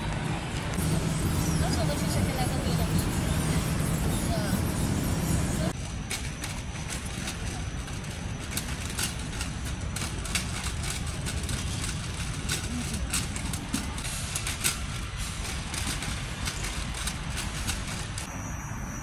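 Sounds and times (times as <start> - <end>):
low rumble of terminal hall: 0.0 - 19.0.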